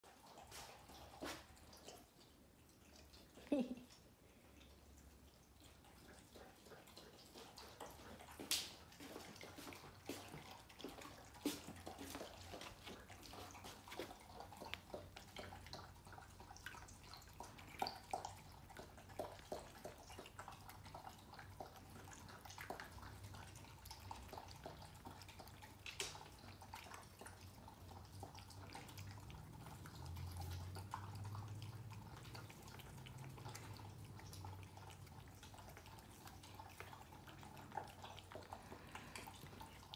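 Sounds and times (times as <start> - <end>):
animals chewing and licking: 0.0 - 39.9.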